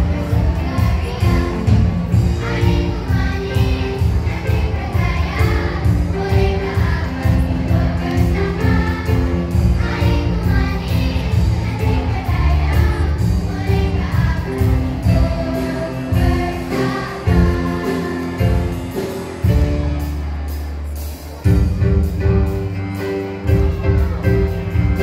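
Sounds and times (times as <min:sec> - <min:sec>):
children's choir singing: 0:00.0 - 0:25.0.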